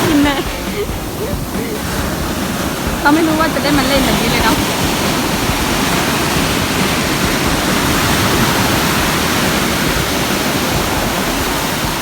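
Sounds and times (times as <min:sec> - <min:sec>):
waves breaking in shallows: 0:00.0 - 0:12.0.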